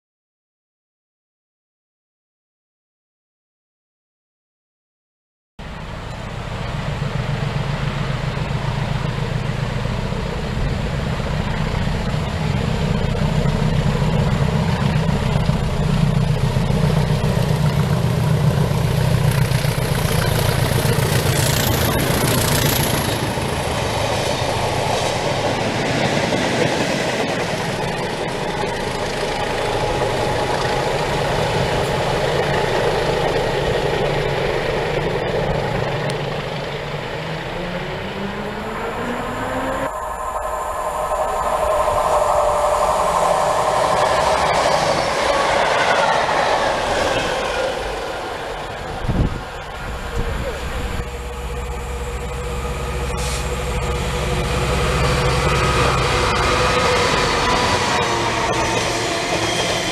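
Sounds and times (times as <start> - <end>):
diesel locomotive engine drone: 5.6 - 59.9
wheel and rail noise: 5.6 - 59.9.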